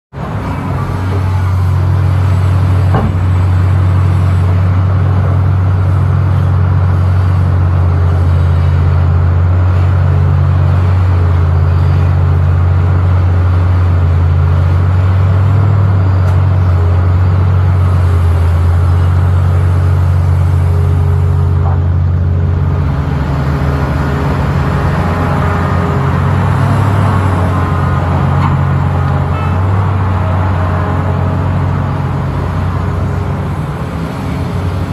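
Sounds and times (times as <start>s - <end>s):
excavator diesel engine droning: 0.1s - 34.9s.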